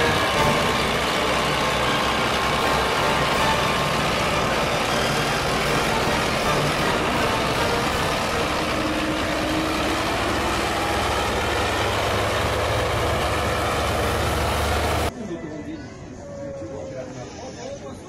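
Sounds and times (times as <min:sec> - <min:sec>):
tractor diesel engine running: 0:00.0 - 0:15.1.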